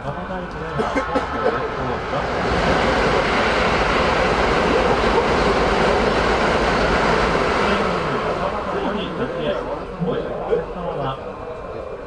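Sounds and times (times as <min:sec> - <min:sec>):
train rail noise rumbling: 0:00.0 - 0:12.0.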